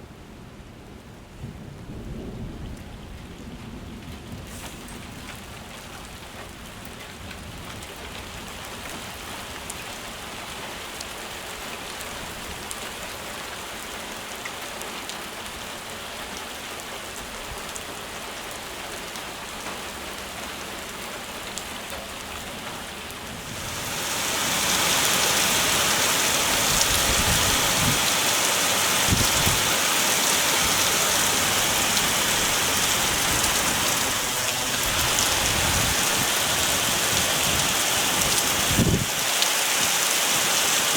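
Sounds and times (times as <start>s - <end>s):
heavy rain hissing: 4.4s - 6.7s, 9.3s - 40.9s.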